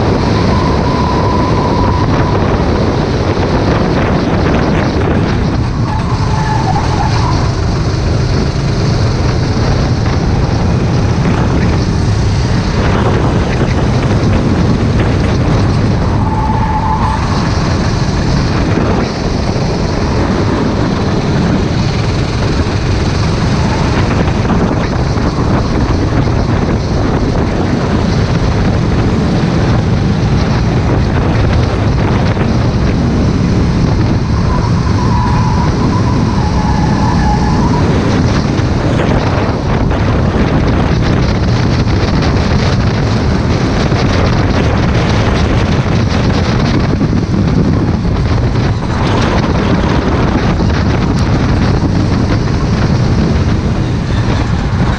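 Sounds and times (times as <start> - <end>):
kart engine running: 0.0 - 54.9
wind buffeting microphone: 0.0 - 54.9.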